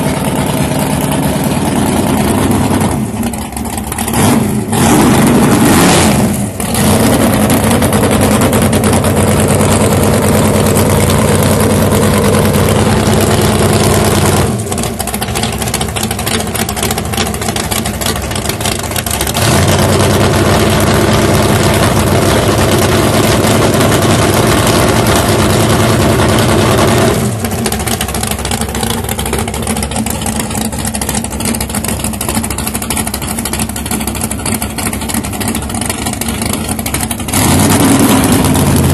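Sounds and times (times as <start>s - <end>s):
drag racing car engines: 0.0s - 38.9s.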